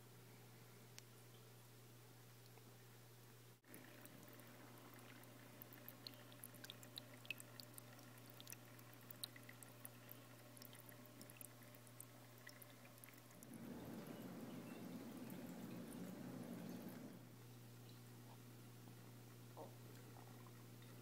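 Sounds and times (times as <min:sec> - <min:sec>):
faint pump hum: 0:00.0 - 0:21.0
tiny ticks and water drips: 0:00.8 - 0:21.0.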